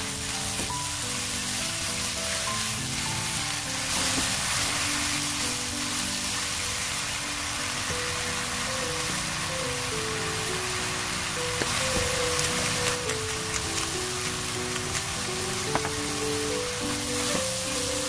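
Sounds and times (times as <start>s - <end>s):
background music with melodic notes: 0.0s - 18.0s
vegetables sizzling in a frying pan: 0.0s - 18.0s.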